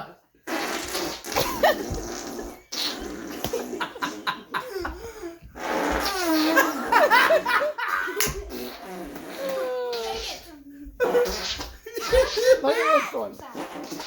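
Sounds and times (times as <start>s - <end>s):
children laughing: 1.4s - 13.4s.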